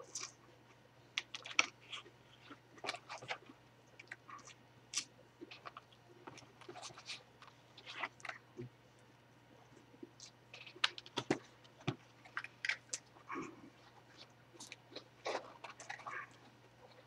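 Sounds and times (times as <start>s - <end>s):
person chewing with wet smacks: 0.0s - 17.0s.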